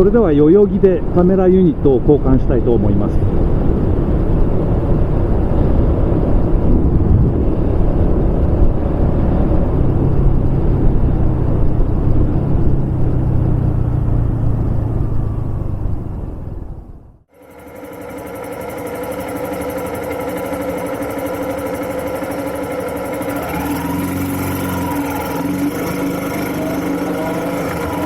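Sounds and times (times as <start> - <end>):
wind and road noise: 0.0 - 17.3, 19.5 - 28.0
motorcycle engine running: 3.0 - 28.0.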